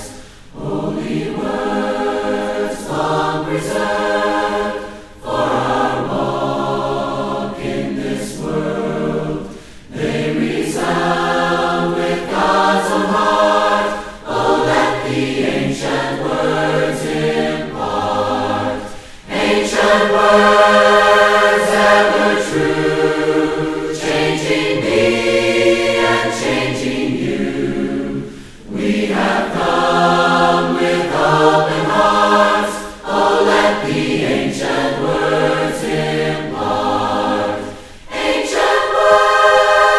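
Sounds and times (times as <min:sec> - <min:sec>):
group singing a hymn a cappella: 0:00.0 - 0:39.9.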